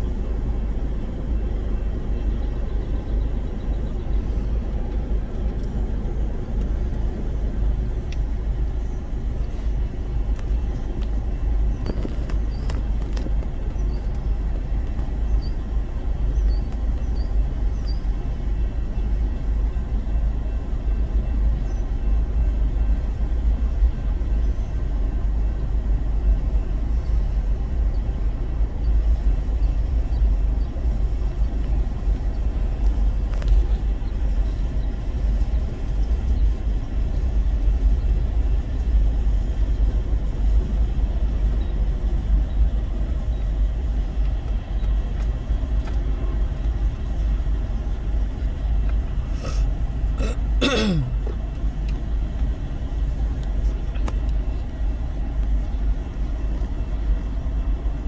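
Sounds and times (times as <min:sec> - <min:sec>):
freight train cars rolling past: 0:00.0 - 0:50.2.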